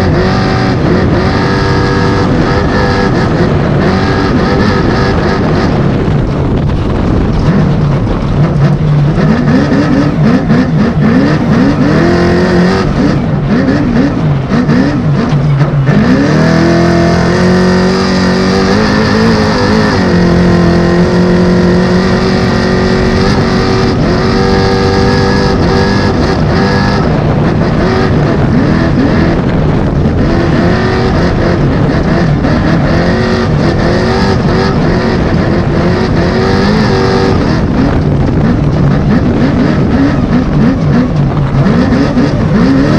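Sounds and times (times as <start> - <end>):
truck engine revving: 0.0 - 42.9.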